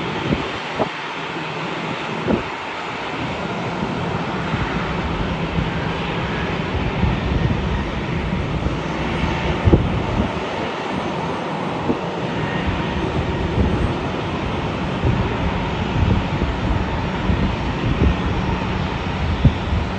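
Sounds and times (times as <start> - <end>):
jet engines running: 0.0 - 19.9
wind buffeting microphone: 0.0 - 19.9.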